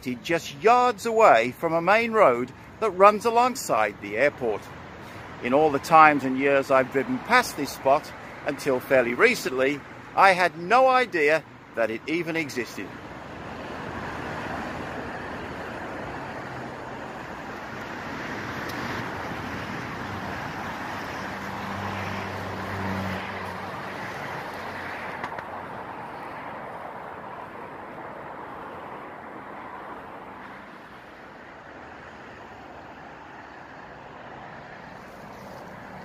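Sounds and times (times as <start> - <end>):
road traffic rushing past: 0.0 - 36.0.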